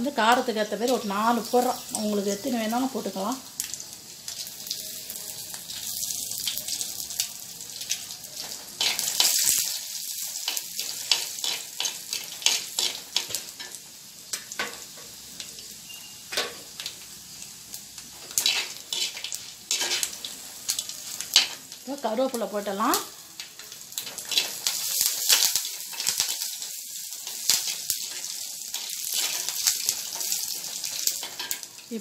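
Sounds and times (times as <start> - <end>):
chillies sizzling in hot oil: 0.0 - 32.0.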